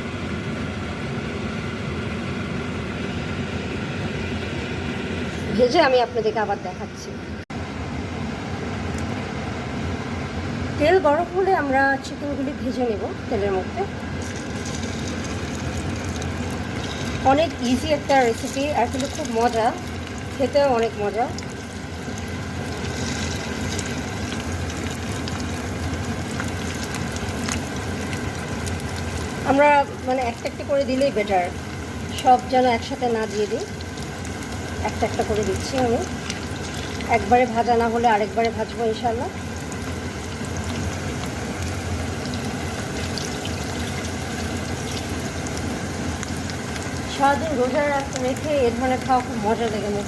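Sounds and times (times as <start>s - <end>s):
low steady hum: 0.0s - 50.0s
chicken frying in hot oil: 8.2s - 50.0s.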